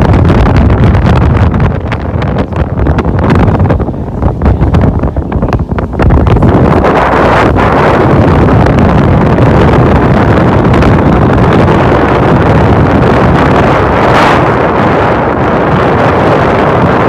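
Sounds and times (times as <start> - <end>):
wind rushing over microphone: 0.0 - 17.0
boat engines droning: 1.2 - 17.0.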